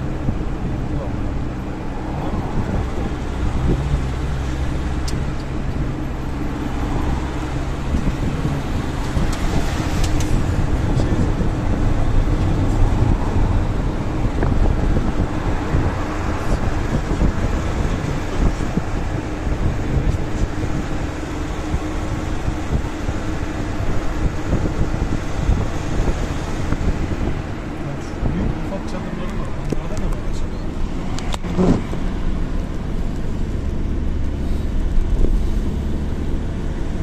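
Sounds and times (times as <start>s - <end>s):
tyre noise on road: 0.0s - 37.0s
vehicle engine drone: 0.0s - 37.0s.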